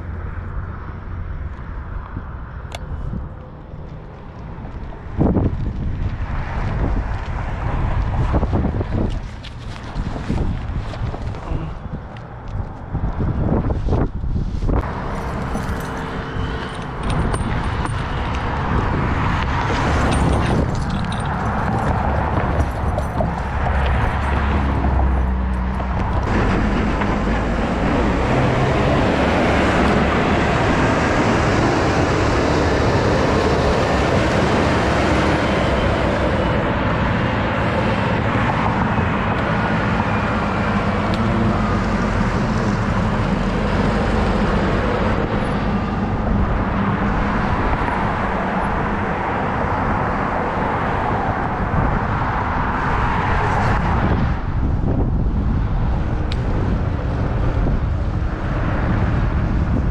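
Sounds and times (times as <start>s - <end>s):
moving vehicle rush: 0.0s - 59.9s.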